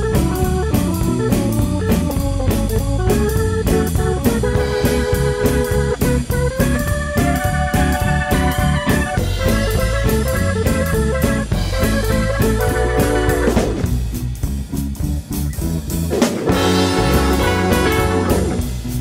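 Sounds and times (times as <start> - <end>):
guitar-led music with bass and drums: 0.0 - 19.0.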